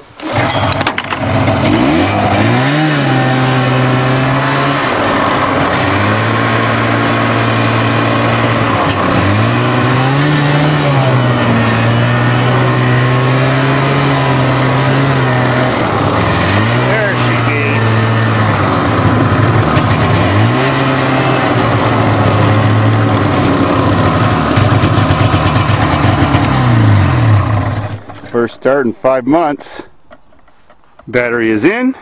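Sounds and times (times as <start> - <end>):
car engine under load: 0.0 - 31.1.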